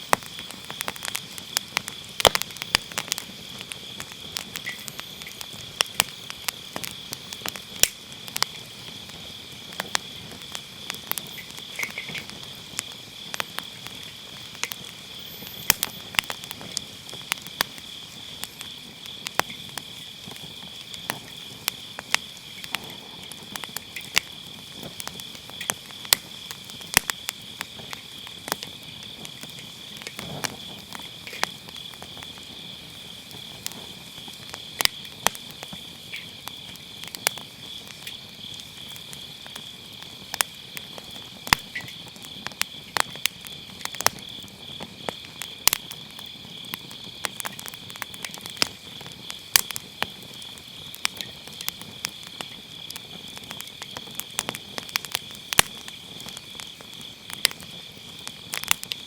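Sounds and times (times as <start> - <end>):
firewood crackling and popping: 0.0 - 59.0
insects chirring: 0.0 - 59.0.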